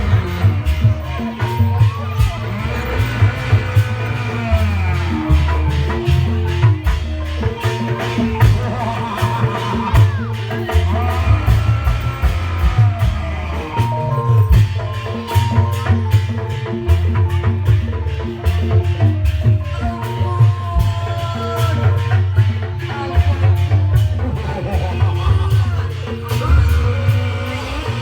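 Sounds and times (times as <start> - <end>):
lively traditional-style music: 0.0 - 28.0.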